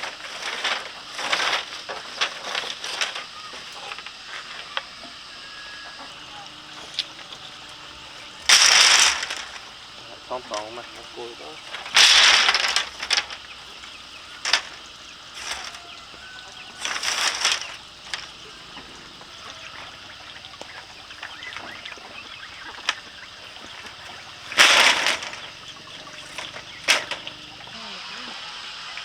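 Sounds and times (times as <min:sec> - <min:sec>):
rustling or scraping: 0:00.0 - 0:28.8.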